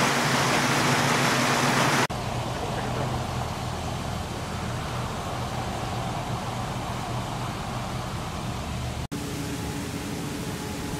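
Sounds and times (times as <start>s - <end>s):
floodwater rushing: 0.0s - 10.9s
vehicle engine humming: 0.0s - 10.9s.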